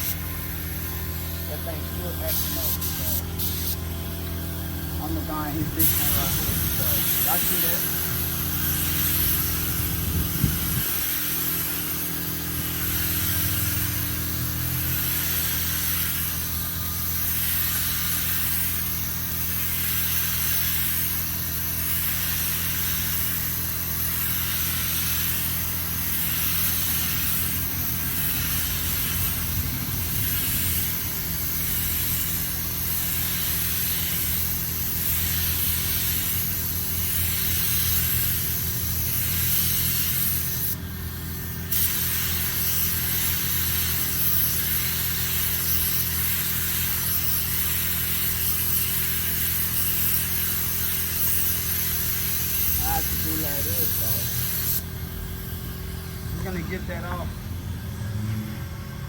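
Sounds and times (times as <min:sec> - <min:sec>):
paint spray gun hissing: 0:00.0 - 0:57.6.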